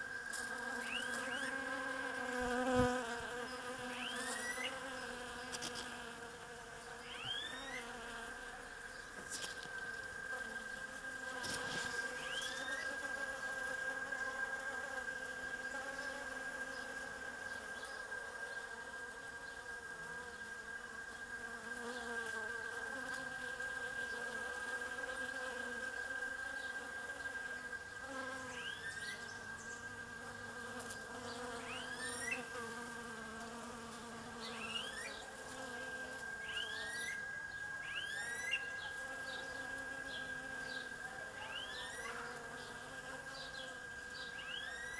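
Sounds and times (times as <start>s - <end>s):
bees buzzing: 0.0s - 17.5s, 18.8s - 37.2s, 38.0s - 44.9s.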